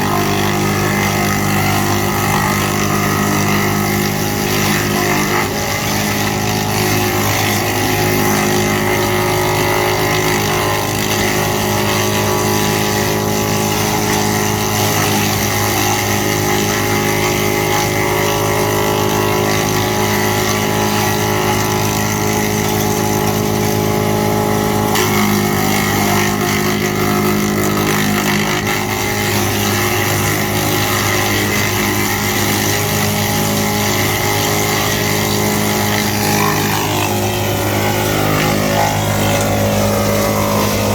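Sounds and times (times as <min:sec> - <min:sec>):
woodchipper machine drone: 0:00.0 - 0:40.9.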